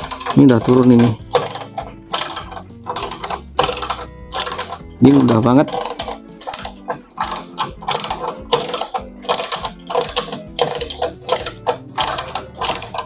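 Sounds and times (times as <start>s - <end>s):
ratchet wrench pawl clicking: 0.0s - 13.0s.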